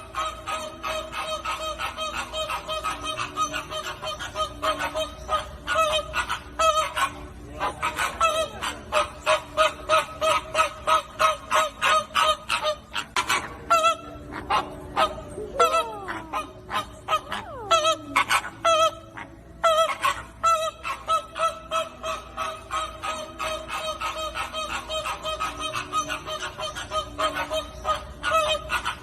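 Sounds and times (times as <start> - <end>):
flamingos honking: 0.0 - 29.0.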